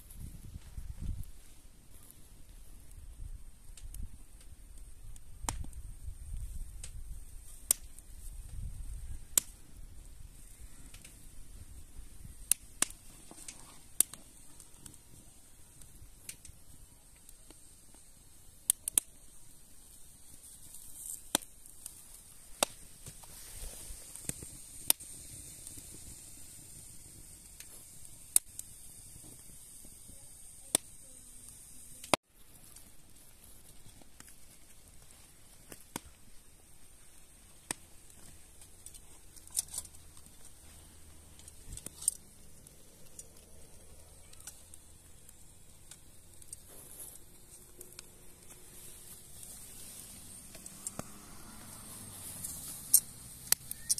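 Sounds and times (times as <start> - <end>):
faint high hiss: 0.0 - 53.9.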